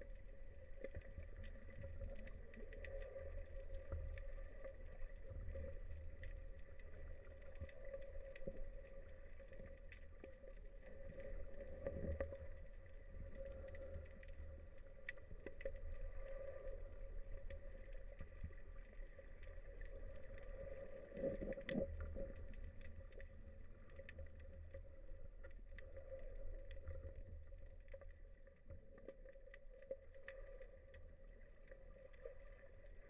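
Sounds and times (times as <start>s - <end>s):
faint clicks: 0.0s - 33.0s
faint steady hum: 0.0s - 33.0s
underwater low rumble: 0.0s - 33.0s.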